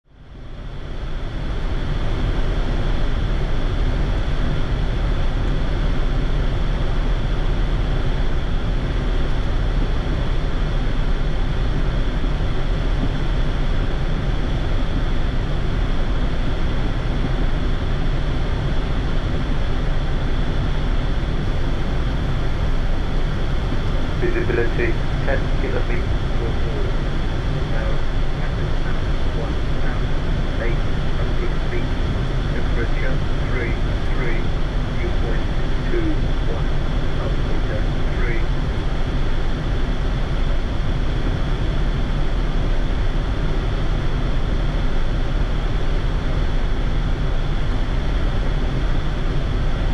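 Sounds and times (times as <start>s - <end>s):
airflow and cabin noise: 0.1s - 49.9s.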